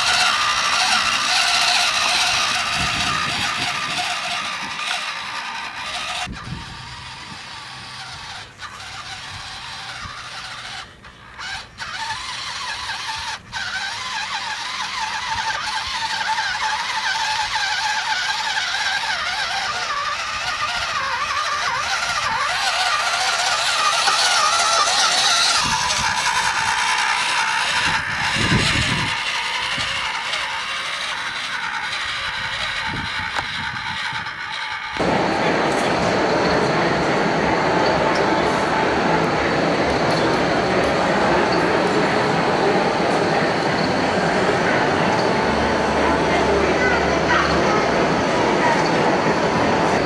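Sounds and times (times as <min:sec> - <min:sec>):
electric motor whining: 0:00.0 - 0:50.0.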